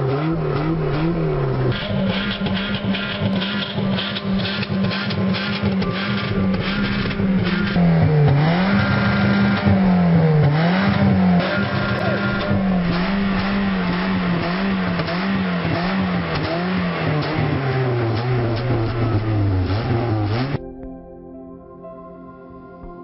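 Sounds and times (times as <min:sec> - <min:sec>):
car engine revving: 0:00.0 - 0:20.6.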